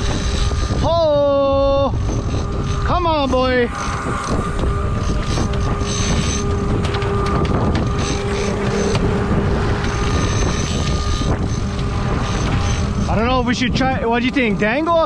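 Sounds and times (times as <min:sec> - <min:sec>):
boat engine humming: 0:00.0 - 0:15.0
water rushing along hull: 0:00.0 - 0:15.0
wind noise on microphone: 0:00.0 - 0:15.0.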